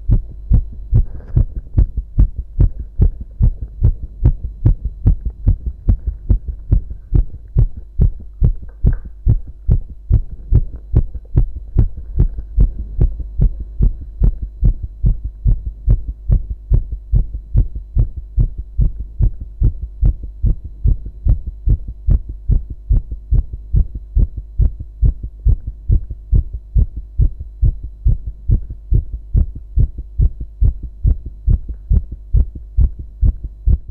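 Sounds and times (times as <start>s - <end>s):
faint steady hum: 0.0s - 33.9s
heartbeat thuds: 0.0s - 33.9s.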